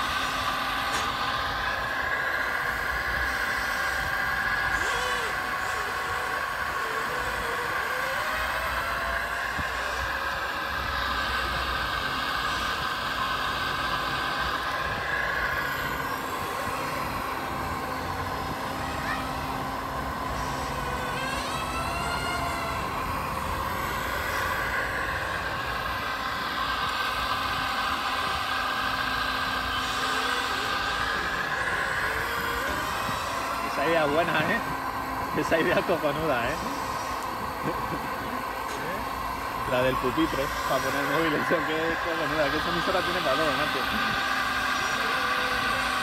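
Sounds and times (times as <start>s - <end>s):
model excavator motor whine: 0.0s - 46.0s.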